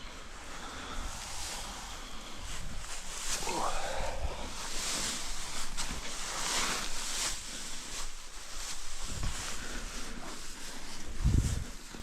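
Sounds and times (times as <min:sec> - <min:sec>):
rustling: 0:00.0 - 0:12.0
footsteps: 0:01.1 - 0:12.0.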